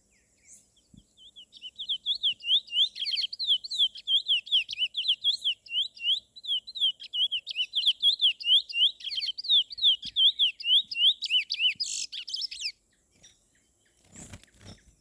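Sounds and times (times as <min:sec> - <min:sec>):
songbird chirping rapidly: 0:00.0 - 0:15.0.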